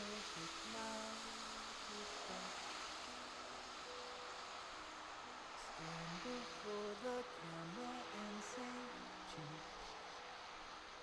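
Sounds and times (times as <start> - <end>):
soft slow background music: 0.0 - 11.0.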